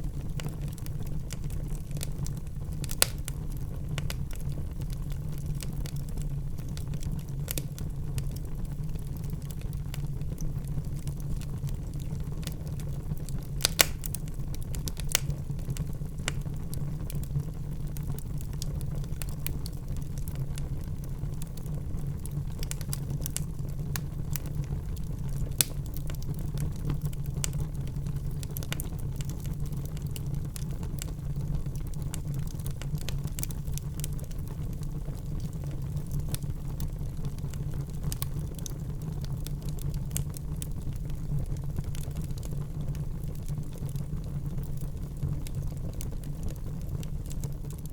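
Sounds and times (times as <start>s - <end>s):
fire crackling and popping: 0.0s - 47.9s
fire low rumble: 0.0s - 47.9s.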